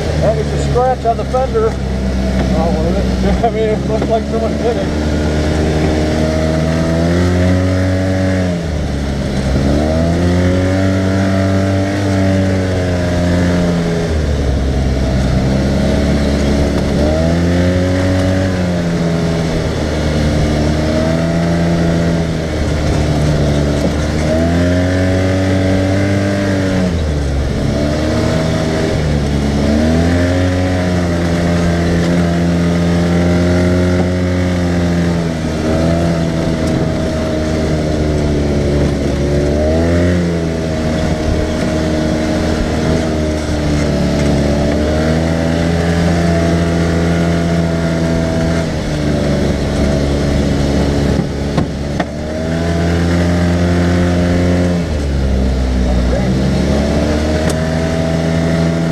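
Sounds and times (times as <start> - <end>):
vehicle engine rising and falling: 0.0 - 58.9.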